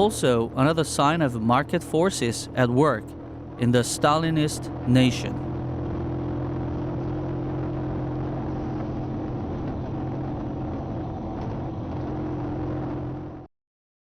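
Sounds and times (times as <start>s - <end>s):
small motorbike engine humming: 0.0s - 13.5s.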